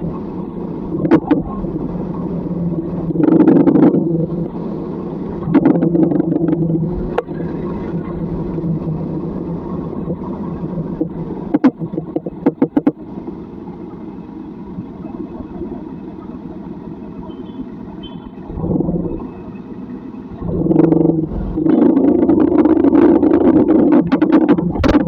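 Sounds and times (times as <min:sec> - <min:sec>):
vehicle humming: 0:00.0 - 0:25.0.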